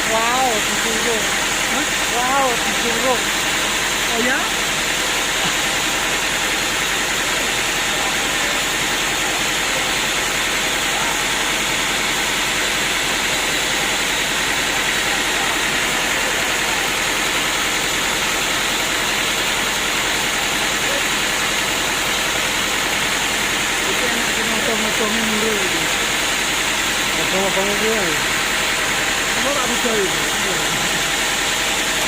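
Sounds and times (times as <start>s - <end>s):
sawmill machinery running: 0.0s - 32.0s.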